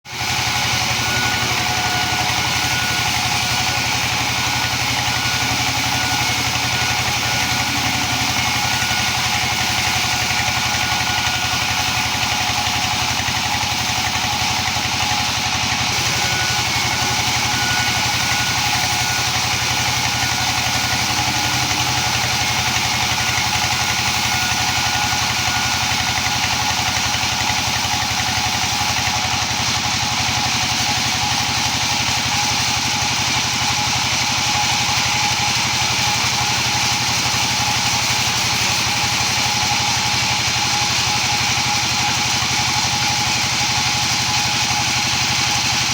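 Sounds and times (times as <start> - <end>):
small engine running: 0.1 - 45.9.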